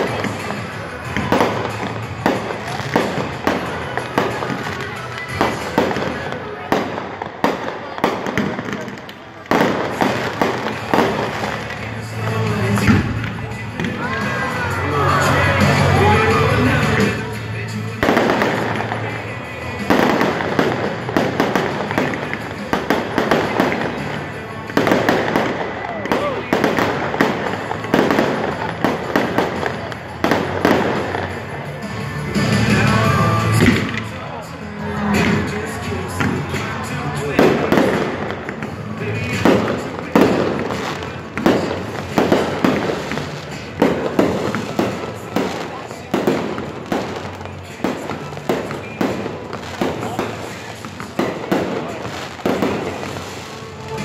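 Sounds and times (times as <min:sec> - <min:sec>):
rapid crackling firework bangs: 0:00.0 - 0:14.2, 0:17.9 - 0:34.2, 0:35.2 - 0:54.0
loud firework bursts: 0:00.0 - 0:34.3, 0:35.0 - 0:54.0.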